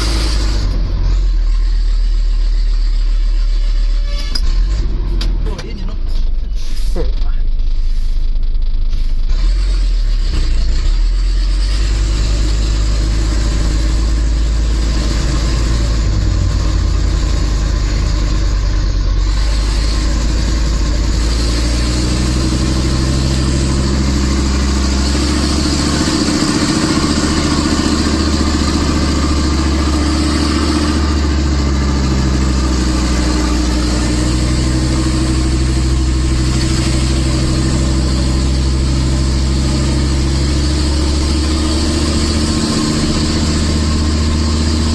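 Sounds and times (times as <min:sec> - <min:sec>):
diesel truck engine droning: 0:00.0 - 0:44.9.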